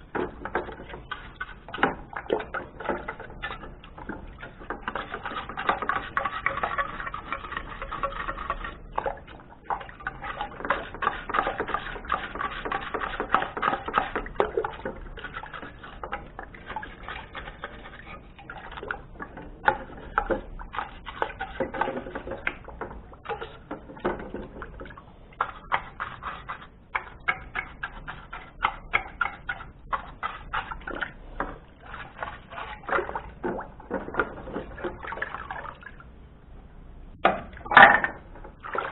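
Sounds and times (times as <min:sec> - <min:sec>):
brush scrubbing plastic: 0:00.0 - 0:35.8
water sloshing and dripping: 0:00.0 - 0:36.2, 0:37.2 - 0:38.9.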